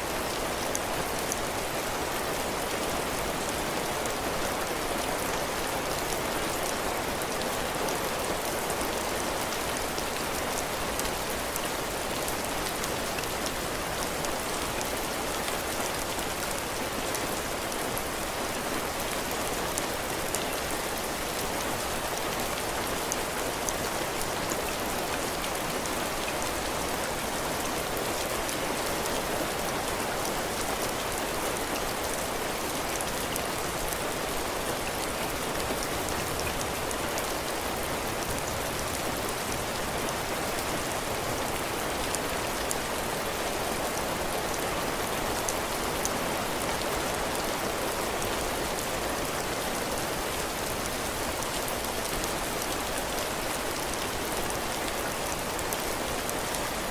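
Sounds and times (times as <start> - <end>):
heavy rain on a roof: 0.0 - 56.9.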